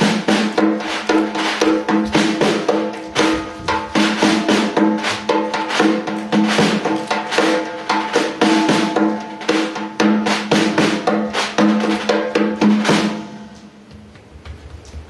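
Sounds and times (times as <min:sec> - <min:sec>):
frame drum played fast: 0:00.0 - 0:13.5.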